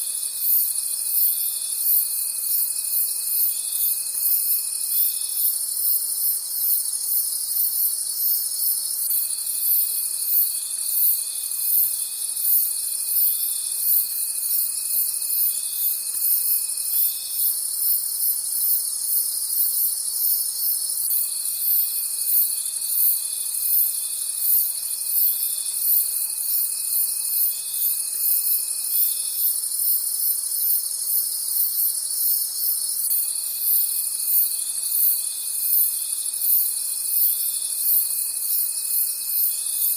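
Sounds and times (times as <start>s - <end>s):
crickets chirping: 0.0s - 39.9s
low continuous insect trill: 0.0s - 39.9s.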